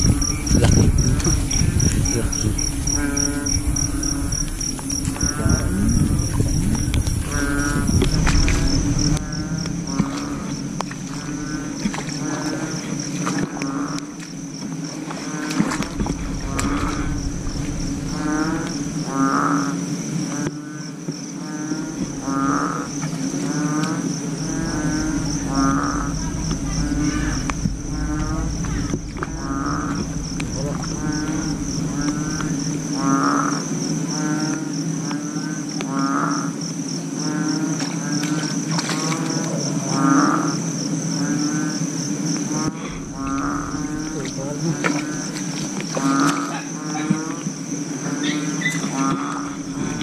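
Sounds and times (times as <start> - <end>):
low rumbling noise: 0.0 - 37.5, 39.7 - 47.0, 47.6 - 50.0
steady low drone: 0.0 - 47.0, 47.6 - 50.0
frogs bleating calls: 0.0 - 50.0
high insect trill: 0.0 - 50.0
high pulsing frog call: 0.0 - 50.0.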